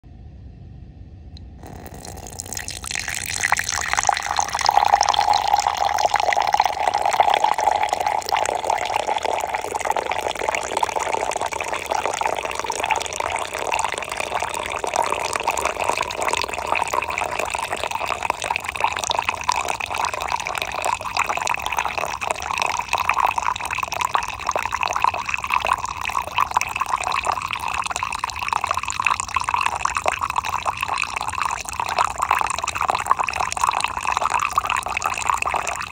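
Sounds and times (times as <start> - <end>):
coffee pouring into a cup: 1.4 - 35.9.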